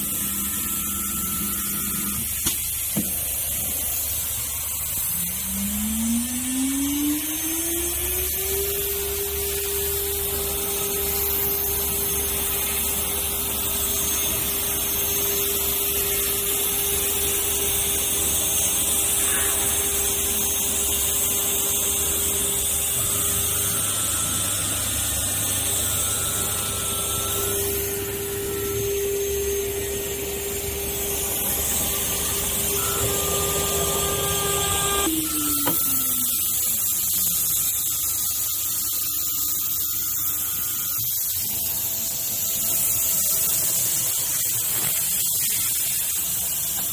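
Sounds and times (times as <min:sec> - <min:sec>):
router spindle whine: 0:00.0 - 0:46.9.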